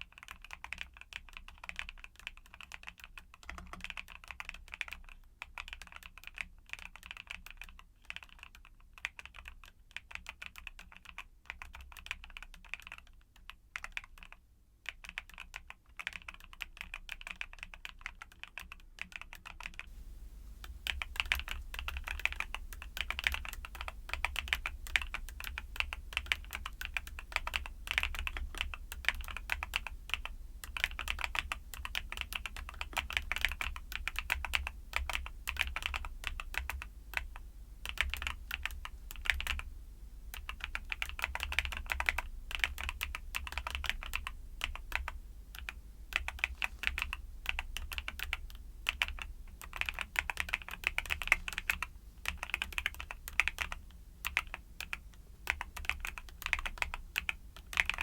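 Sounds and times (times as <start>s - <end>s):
mechanical keyboard typing: 0.0s - 39.7s, 40.3s - 58.0s
faint low hum: 0.1s - 58.0s.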